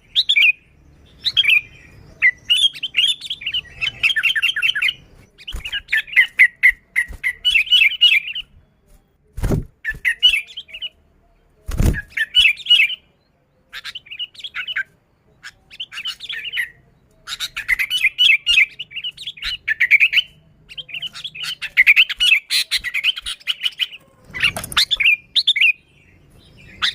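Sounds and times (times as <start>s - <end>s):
bulbul singing chattering phrases: 0.0s - 8.7s, 9.8s - 25.9s.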